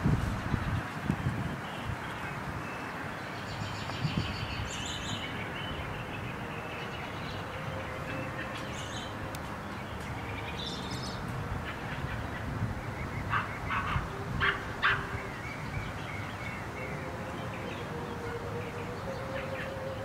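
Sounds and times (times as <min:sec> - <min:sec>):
birds chirping: 0:00.0 - 0:20.0
outdoor background hiss: 0:00.0 - 0:20.0.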